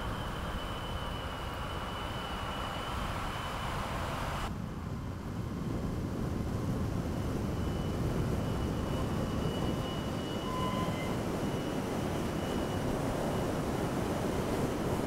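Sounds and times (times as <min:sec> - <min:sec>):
faint high whine: 0:00.0 - 0:05.6, 0:07.2 - 0:15.0.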